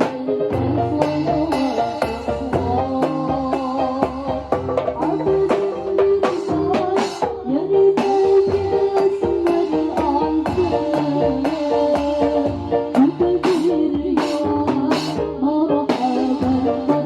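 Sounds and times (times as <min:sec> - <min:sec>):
hand drums: 0:00.0 - 0:17.0
held melodic line: 0:00.0 - 0:17.0.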